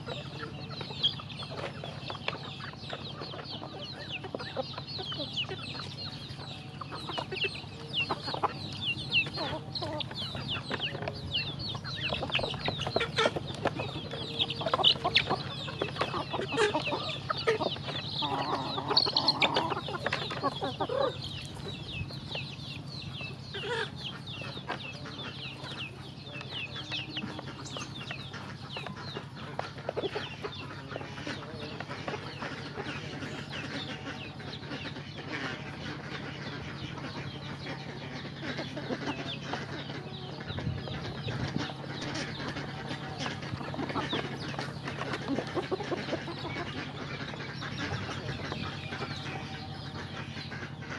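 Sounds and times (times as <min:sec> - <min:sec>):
chicks peeping and chirping: 0:00.0 - 0:50.9
hens clucking: 0:00.0 - 0:50.9.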